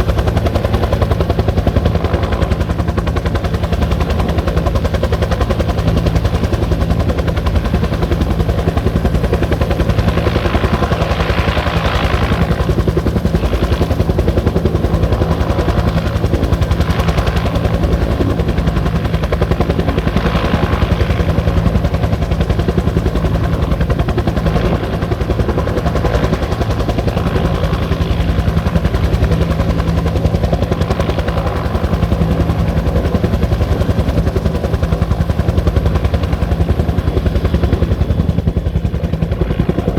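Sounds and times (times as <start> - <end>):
helicopter rotor beating: 0.0 - 39.9.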